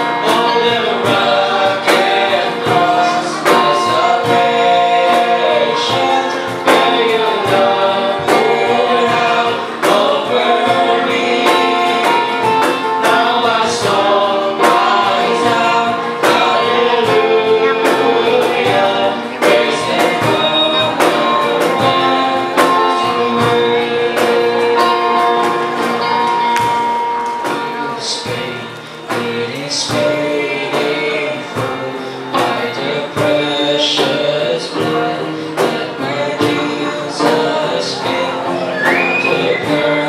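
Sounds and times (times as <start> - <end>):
cajon beat: 0.0 - 40.0
gospel singing: 0.0 - 40.0
guitars: 0.0 - 40.0.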